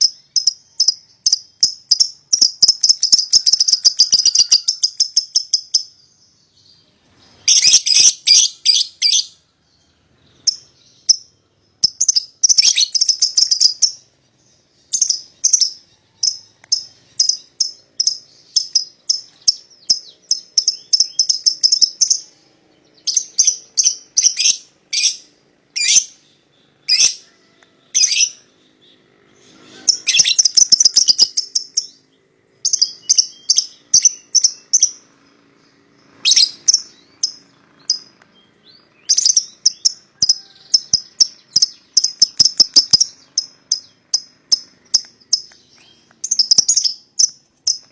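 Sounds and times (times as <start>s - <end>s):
lovebirds chattering and chirping: 0.0s - 47.9s.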